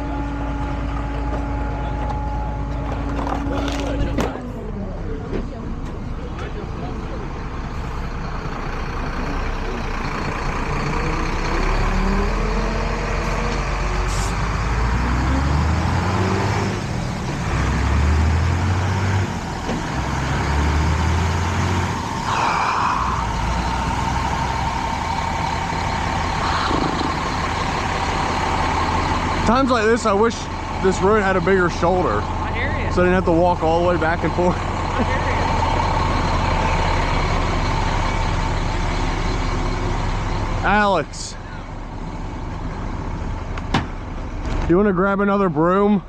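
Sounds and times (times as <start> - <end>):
heavy truck engine accelerating: 0.0 - 46.0
road noise: 0.0 - 46.0.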